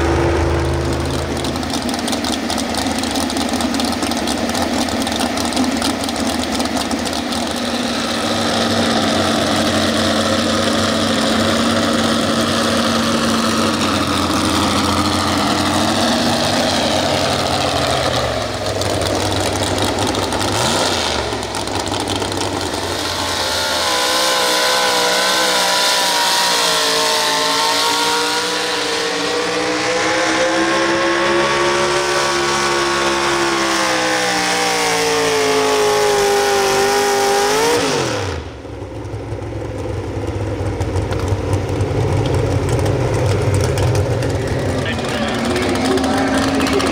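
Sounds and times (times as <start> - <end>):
truck engine revving under load: 0.0 - 46.9.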